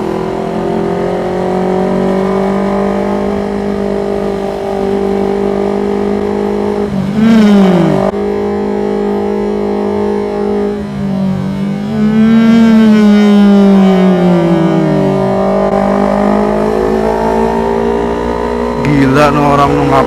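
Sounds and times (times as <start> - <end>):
motorcycle engine running: 0.0 - 20.0
passing vehicle engine: 0.0 - 20.0.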